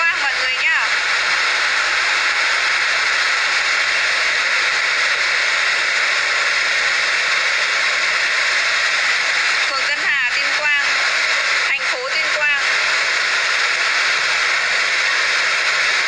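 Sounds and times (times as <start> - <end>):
steady hissing noise: 0.0 - 16.0.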